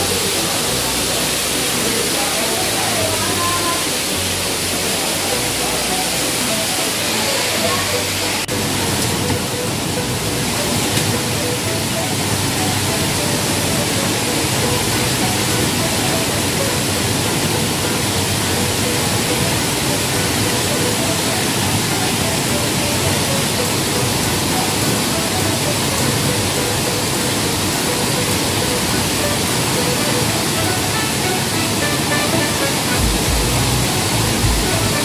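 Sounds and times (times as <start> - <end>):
waterfall rushing and splashing: 0.0 - 35.0.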